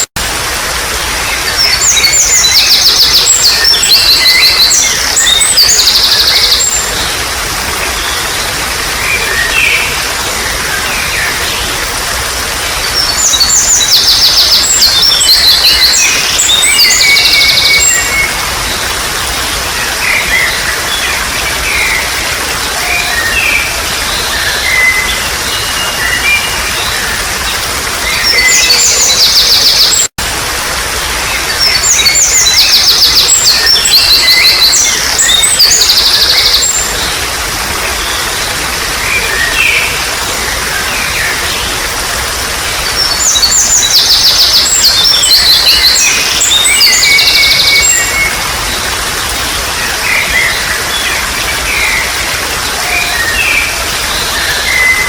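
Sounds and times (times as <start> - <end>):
songbirds singing: 0.0 - 30.1, 30.8 - 55.0
stream water babbling: 0.0 - 55.0.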